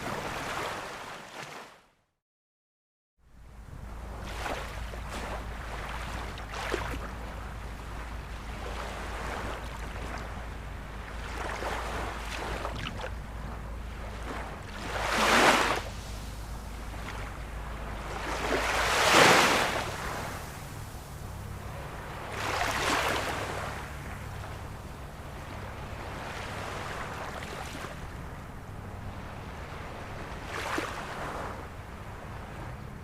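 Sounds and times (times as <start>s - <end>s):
steady low rumble: 3.2s - 33.0s
ocean surf washing in: 3.6s - 33.0s
wave breaking: 4.1s - 32.9s.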